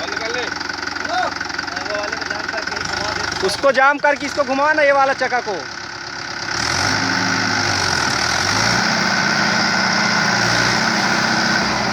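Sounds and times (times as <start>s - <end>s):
tractor engine revving: 0.0s - 11.9s.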